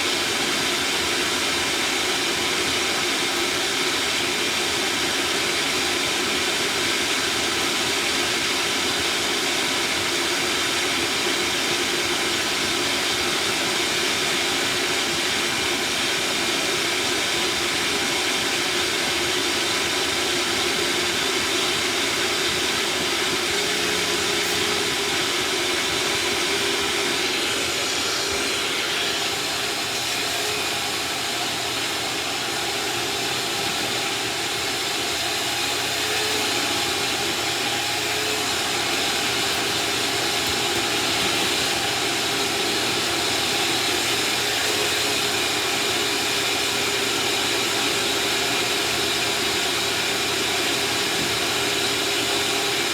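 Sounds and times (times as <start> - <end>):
shop vacuum running: 0.0 - 52.9.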